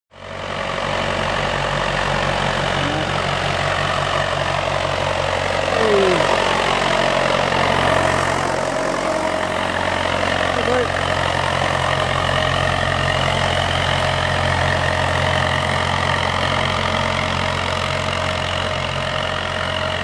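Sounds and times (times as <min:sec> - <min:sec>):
tractor engine running: 0:00.2 - 0:20.0.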